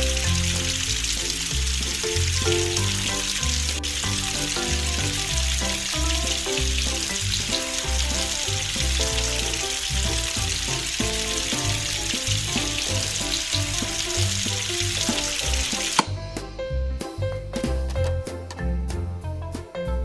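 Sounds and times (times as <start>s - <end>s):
frying sizzle: 0.0s - 16.2s
music with bass beat: 0.0s - 20.0s.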